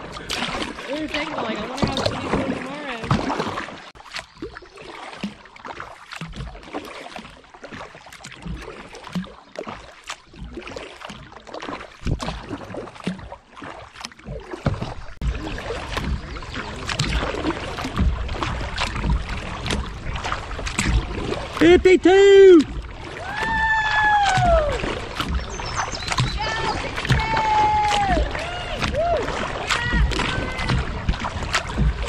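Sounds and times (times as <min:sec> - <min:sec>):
paddle splashing in water: 0:00.0 - 0:32.0.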